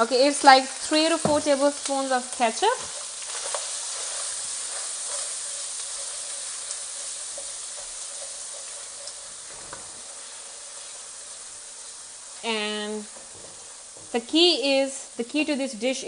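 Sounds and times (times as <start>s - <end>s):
sauce sizzling in hot oil: 0.0s - 16.0s.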